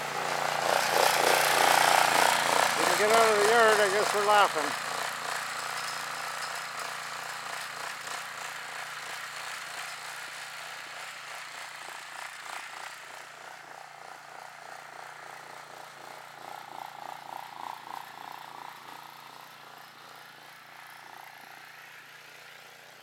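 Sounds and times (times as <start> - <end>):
small mower engine running: 0.0 - 23.0.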